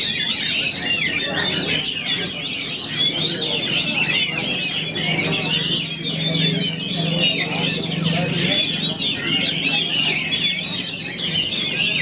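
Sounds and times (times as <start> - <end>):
many songbirds singing: 0.0 - 12.0.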